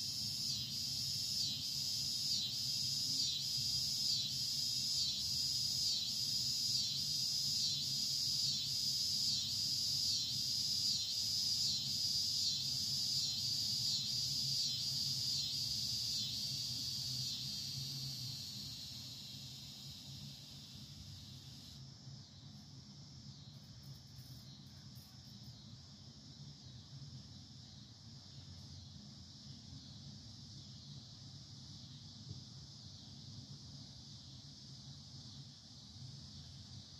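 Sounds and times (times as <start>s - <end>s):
insects pulsing buzz: 0.0s - 36.9s.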